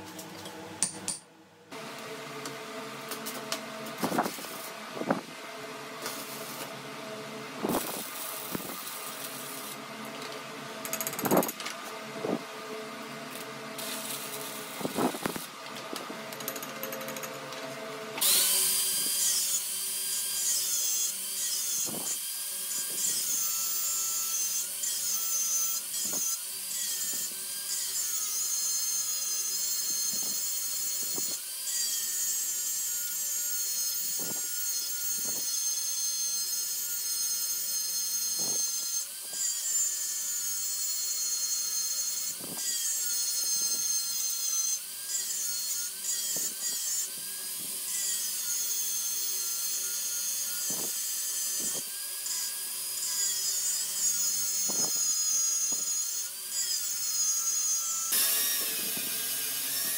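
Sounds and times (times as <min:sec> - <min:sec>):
angle grinder grinding steel: 0:01.8 - 0:59.9.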